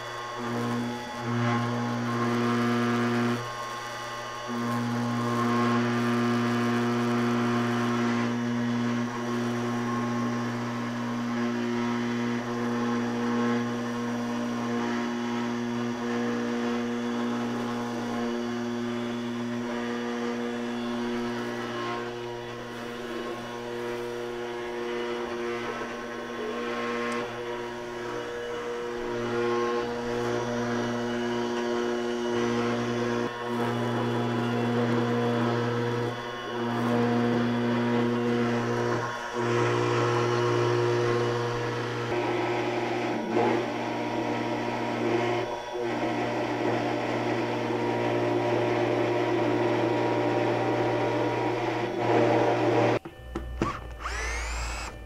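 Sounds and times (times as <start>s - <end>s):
router spindle hum and whine: 0.0s - 55.0s.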